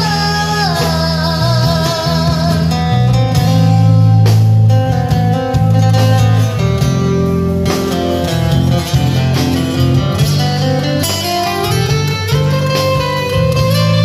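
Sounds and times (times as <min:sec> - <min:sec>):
acoustic guitar strumming: 0:00.0 - 0:14.0
drums: 0:00.0 - 0:14.0
electric bass line: 0:00.0 - 0:14.0.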